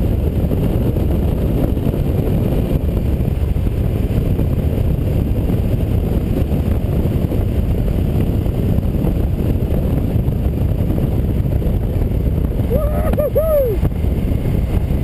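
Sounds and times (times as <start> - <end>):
motorcycle engine running: 0.0 - 15.0
road rumble: 0.0 - 15.0
wind buffeting: 0.0 - 15.0.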